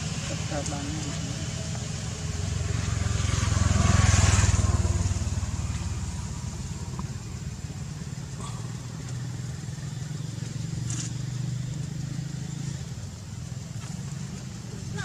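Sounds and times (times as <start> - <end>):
vehicle driving past: 0.0 - 15.0.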